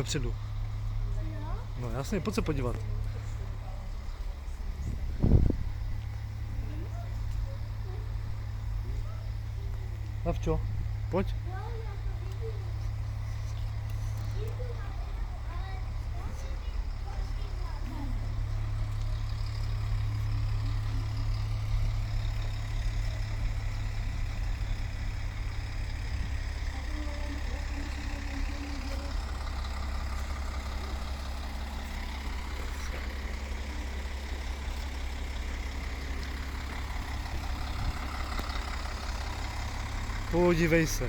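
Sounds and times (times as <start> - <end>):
heavy engine idling: 0.0 - 41.0.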